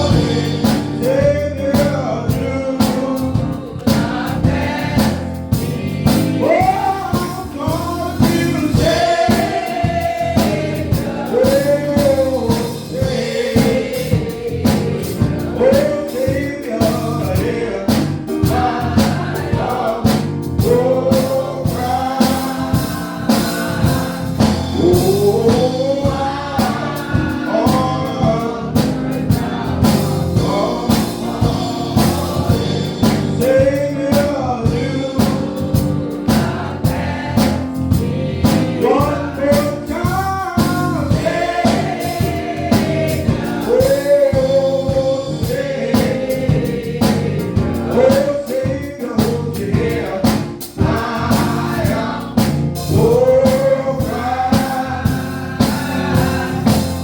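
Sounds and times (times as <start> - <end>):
band playing steady beat: 0.0 - 57.0
gospel singing: 0.0 - 57.0.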